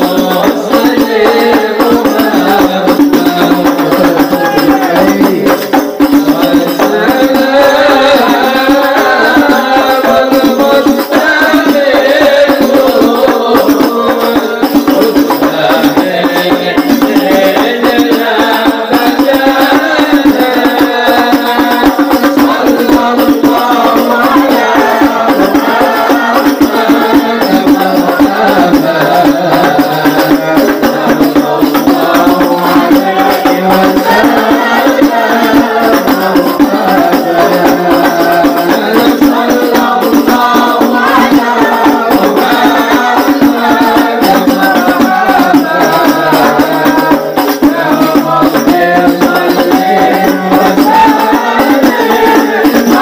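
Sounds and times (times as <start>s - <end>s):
group singing devotional praise: 0.0s - 53.0s
hand-beaten frame drums: 0.0s - 53.0s.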